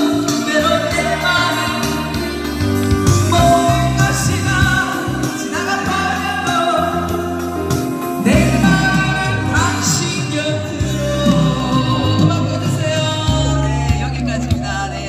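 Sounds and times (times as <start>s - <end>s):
instrumental backing music: 0.0s - 15.0s.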